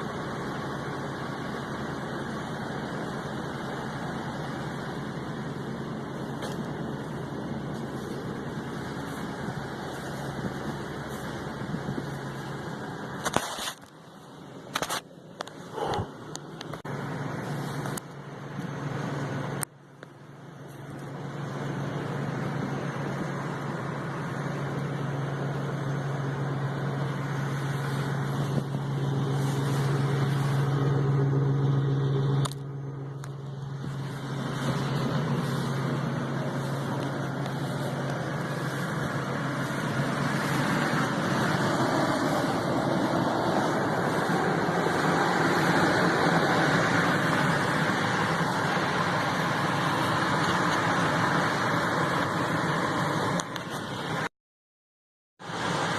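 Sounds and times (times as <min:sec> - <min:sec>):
truck engine running: 0:00.0 - 0:54.3, 0:55.4 - 0:55.9.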